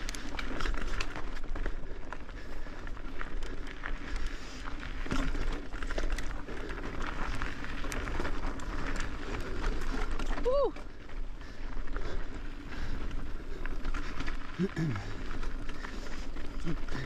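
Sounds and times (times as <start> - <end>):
bike clicks and rattles: 0.0 - 17.0.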